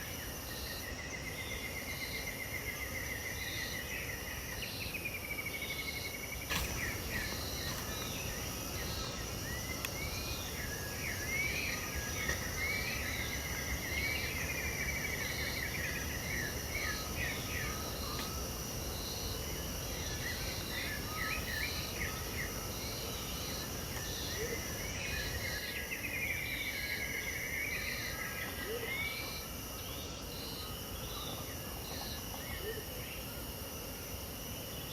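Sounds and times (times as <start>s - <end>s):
birds singing: 0.0s - 33.3s
insects droning: 0.0s - 34.9s.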